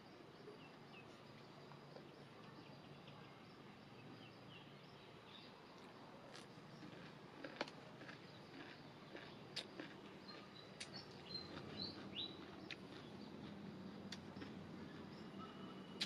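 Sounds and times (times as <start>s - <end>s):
faint outdoor background: 0.0s - 16.0s
small birds chirping: 0.4s - 16.0s.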